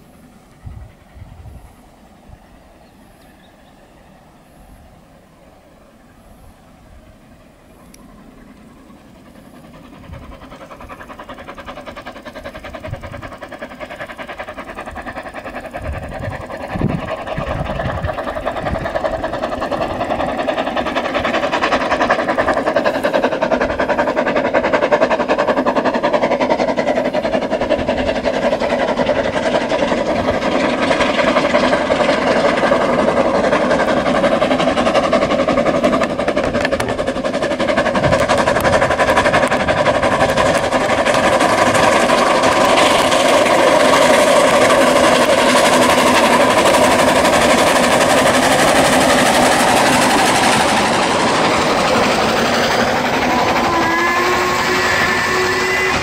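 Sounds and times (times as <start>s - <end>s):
steam locomotive hauling a train: 0.0s - 56.0s.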